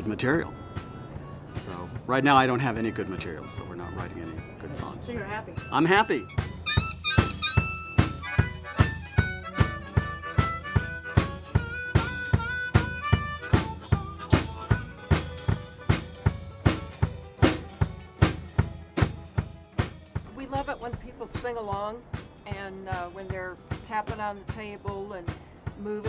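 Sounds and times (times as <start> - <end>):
harmonica melody: 0.0 - 26.0
steady drum beat: 0.0 - 26.0
strummed acoustic guitar: 0.0 - 26.0.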